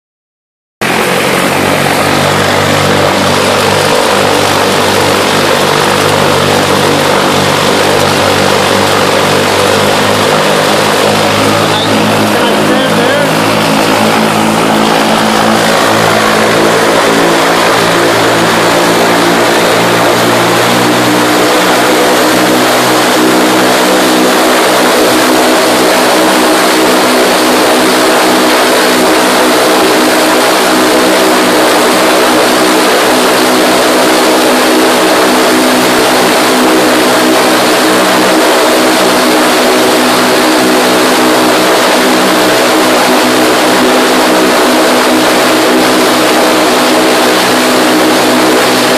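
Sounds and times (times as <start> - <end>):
aircraft engine running: 0.8 - 48.9.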